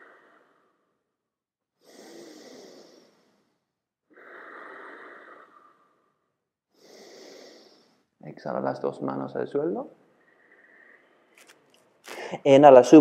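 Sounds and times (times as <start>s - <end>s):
slow breathing close up: 0.0s - 8.2s, 10.0s - 12.4s.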